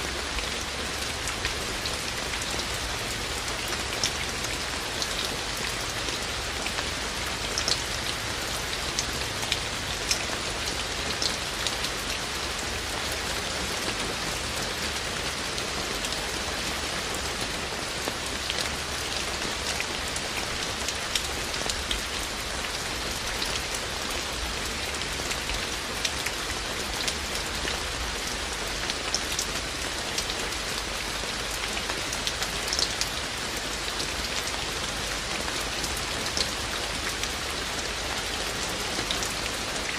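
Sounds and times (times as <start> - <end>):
raindrops dripping on surfaces: 0.0 - 39.9
steady rain falling: 0.0 - 39.9.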